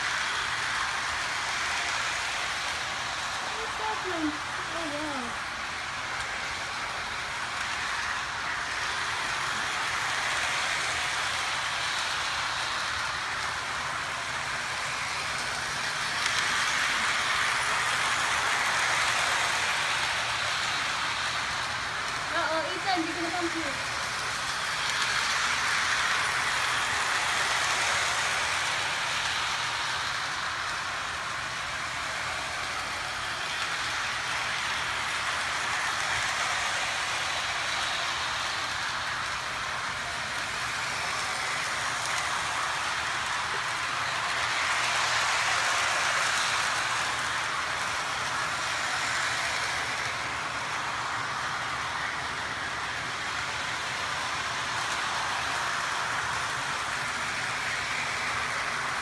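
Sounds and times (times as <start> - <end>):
model train running on track: 0.0 - 59.0.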